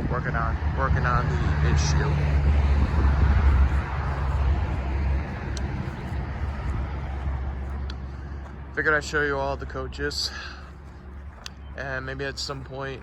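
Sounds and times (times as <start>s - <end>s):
road vehicle engine rumble: 0.0s - 13.0s.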